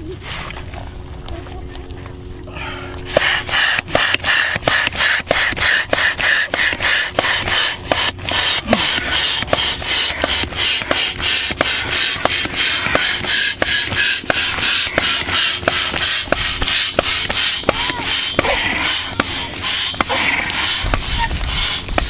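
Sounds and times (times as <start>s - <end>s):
rhythmic rubbing strokes: 3.0s - 22.0s.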